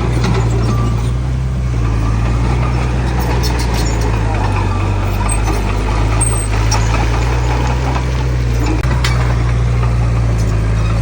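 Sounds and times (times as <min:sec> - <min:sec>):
heavy diesel engine droning: 0:00.0 - 0:11.0.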